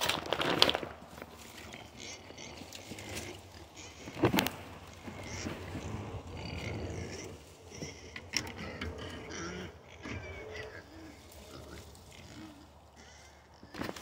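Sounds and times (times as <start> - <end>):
hogs grunting: 1.4 - 14.0
hogs squealing: 1.7 - 13.9.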